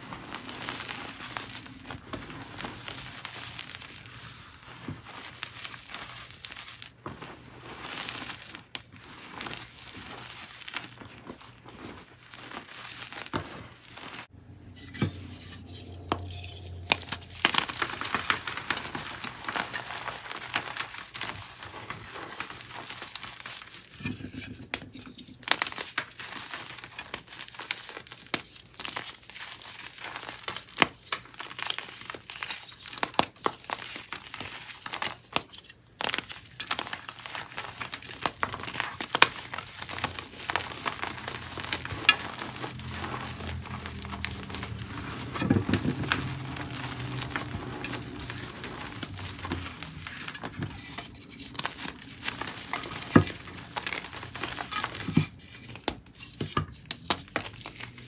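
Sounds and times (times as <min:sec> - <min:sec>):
chalk crunching and snapping: 0:00.0 - 0:14.3, 0:15.4 - 0:24.0, 0:24.6 - 0:58.0.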